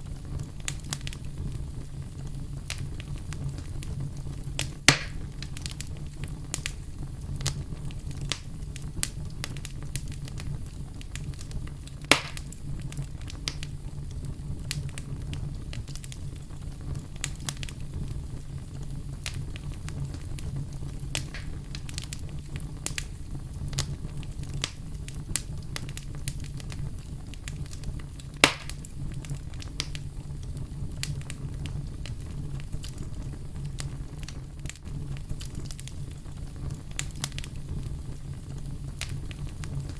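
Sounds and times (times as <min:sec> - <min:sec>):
loud fire pops: 0:00.0 - 0:39.9
low steady rumble: 0:00.0 - 0:39.9
wood fire crackling: 0:00.0 - 0:39.9.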